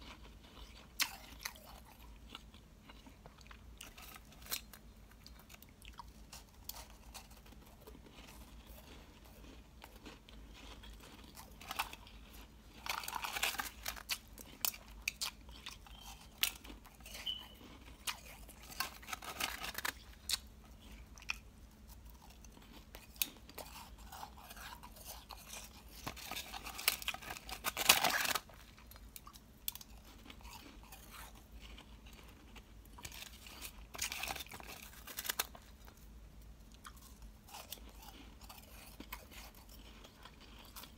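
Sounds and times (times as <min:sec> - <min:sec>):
crunching and chewing ice: 0:00.0 - 0:40.9.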